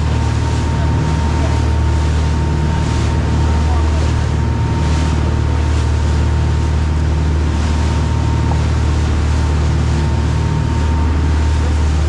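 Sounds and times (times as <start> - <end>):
boat engines droning: 0.0 - 12.0
rush of boat wake: 0.0 - 12.0
wind: 0.0 - 12.0.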